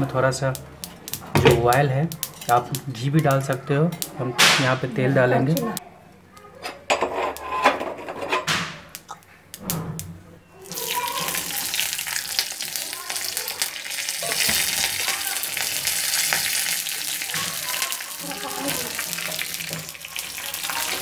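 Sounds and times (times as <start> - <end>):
hot oil sizzling and crackling: 0.0 - 5.8, 8.4 - 21.0.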